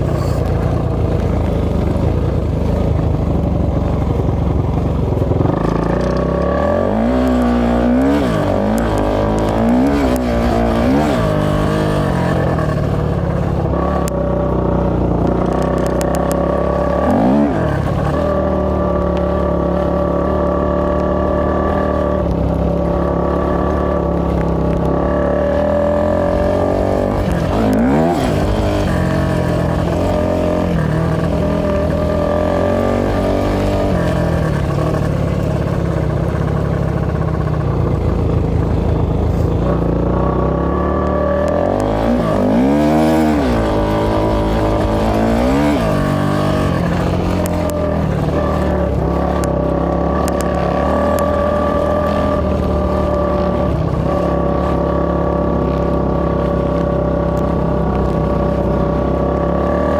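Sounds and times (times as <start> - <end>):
off-road motorcycle engine revving: 0.0 - 59.9.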